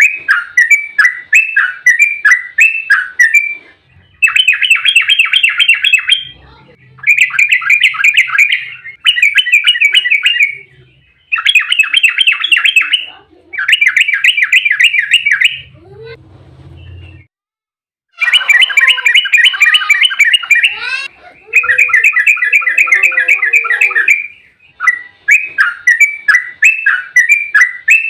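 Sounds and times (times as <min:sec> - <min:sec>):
bird singing bubbly notes: 0:00.0 - 0:15.7, 0:18.2 - 0:28.0.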